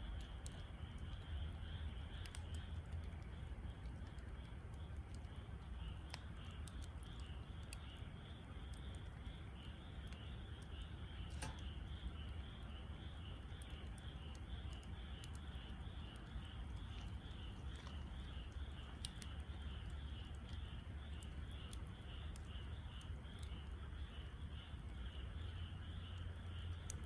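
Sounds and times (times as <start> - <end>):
campfire crackling: 0.0 - 27.0
insect chirping: 0.0 - 27.0.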